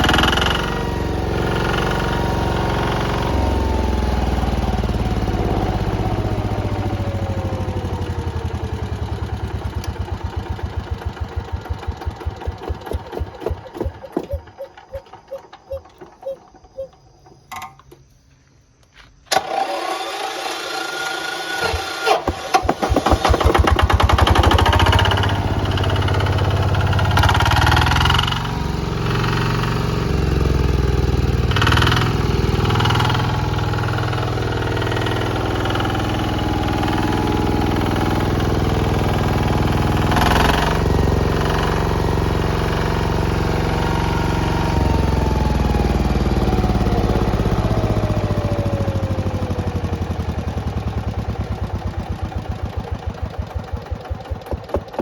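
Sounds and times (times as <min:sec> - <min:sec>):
diesel engine running: 0:00.0 - 0:16.7, 0:22.8 - 0:55.0.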